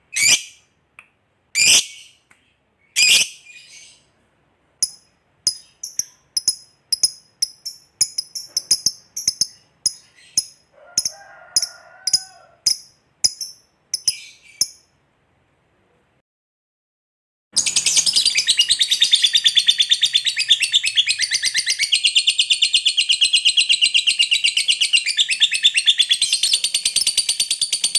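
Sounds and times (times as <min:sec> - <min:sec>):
lovebird chirping: 0:00.1 - 0:00.7, 0:01.5 - 0:04.1, 0:04.8 - 0:15.0, 0:17.6 - 0:27.9.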